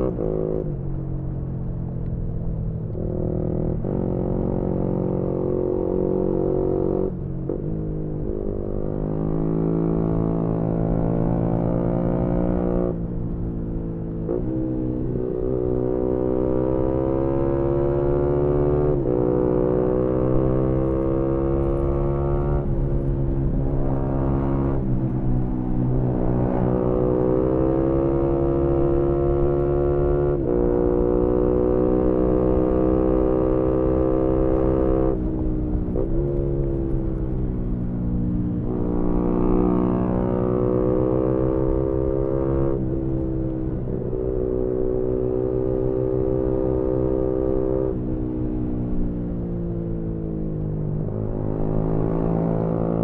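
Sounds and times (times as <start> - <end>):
motorcycle engine accelerating: 0.0 - 1.4, 2.1 - 53.0
wind and road rumble: 0.0 - 53.0.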